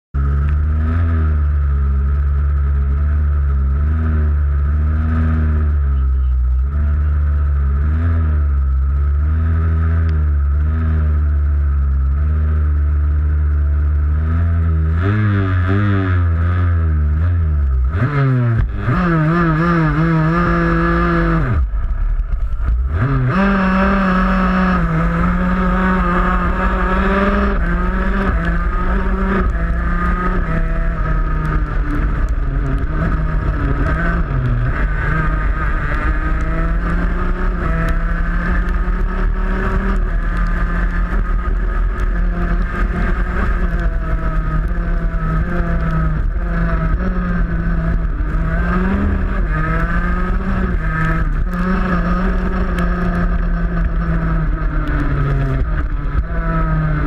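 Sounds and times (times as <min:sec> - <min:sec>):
kart engine revving through gears: 0:00.2 - 0:57.0.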